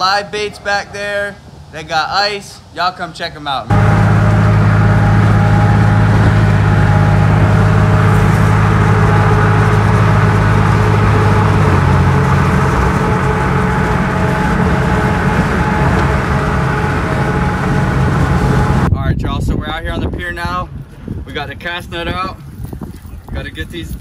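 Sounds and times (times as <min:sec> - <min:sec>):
vehicle engine and road noise: 0:00.0 - 0:21.7.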